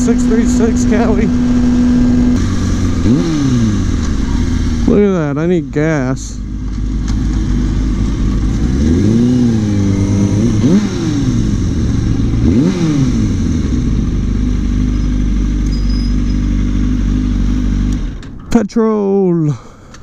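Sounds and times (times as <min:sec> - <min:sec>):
motorcycle engine revving and idling: 0:00.0 - 0:18.4.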